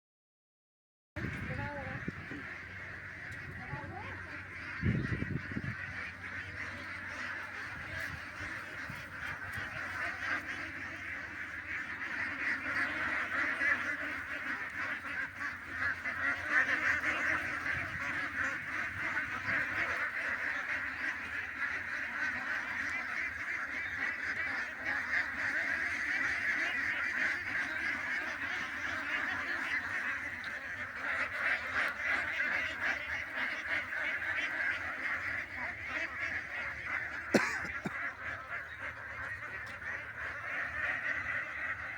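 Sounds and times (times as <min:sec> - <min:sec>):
flock of birds calling: 0:01.2 - 0:41.9.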